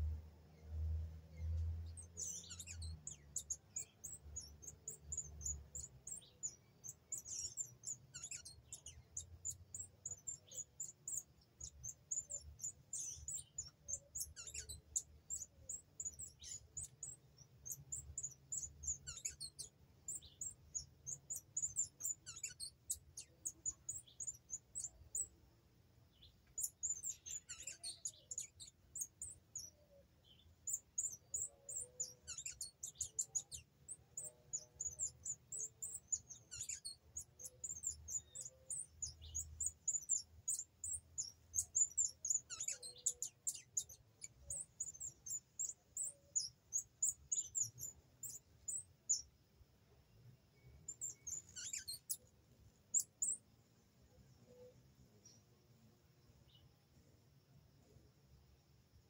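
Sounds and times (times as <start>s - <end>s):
birds chirping: 0.0s - 58.1s.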